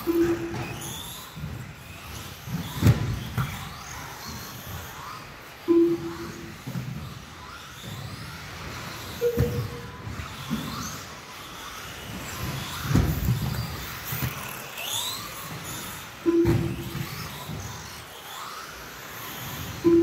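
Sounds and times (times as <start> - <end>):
rc car motor whine: 0.0 - 20.0.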